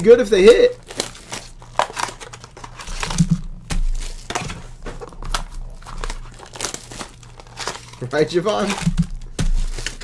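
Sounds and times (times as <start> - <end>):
plastic wrapping crinkling and tearing: 0.0 - 10.0.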